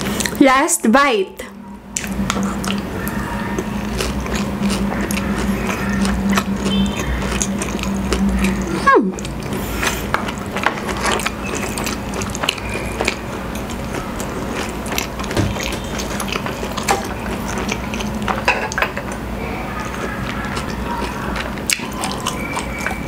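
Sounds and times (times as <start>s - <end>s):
chewing and swallowing: 0.0s - 0.4s, 1.4s - 23.0s
low steady hum: 0.0s - 23.0s.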